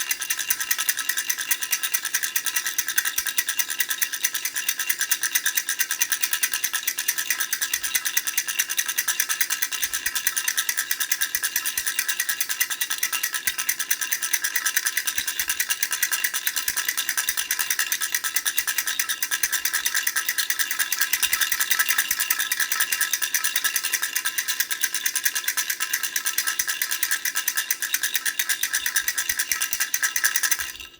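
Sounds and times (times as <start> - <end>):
plastic rattle shaken: 0.0 - 30.9.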